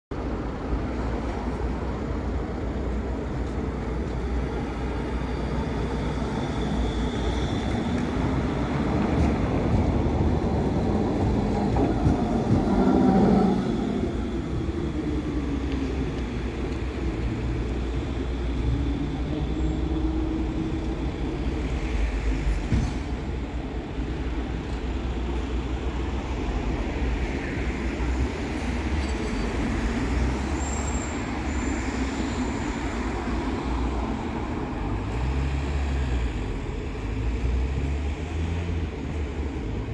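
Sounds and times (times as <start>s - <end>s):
street traffic rumble: 0.1s - 39.9s
wheels rumbling on rail: 0.1s - 39.9s
tram electric drive whine: 0.2s - 39.9s.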